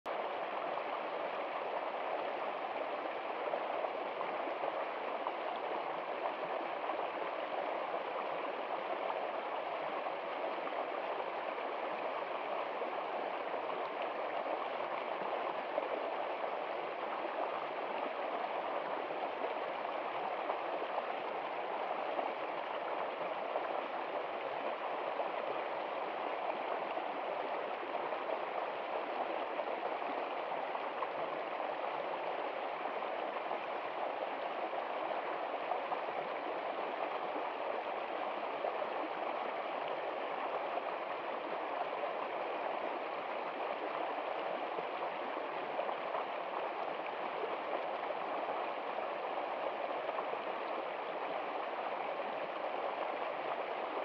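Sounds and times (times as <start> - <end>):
creek running over rocks: 0.1 - 54.0.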